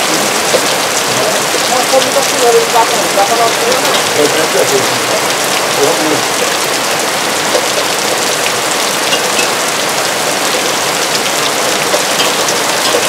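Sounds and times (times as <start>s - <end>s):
heavy rain falling: 0.0s - 13.0s
raindrops ticking nearby: 0.0s - 13.0s.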